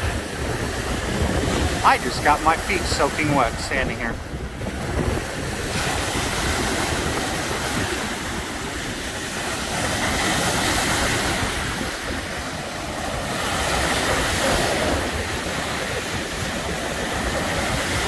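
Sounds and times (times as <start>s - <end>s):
wind rumbling on microphone: 0.0s - 2.8s, 3.5s - 18.0s
waves washing onto beach: 0.0s - 18.0s.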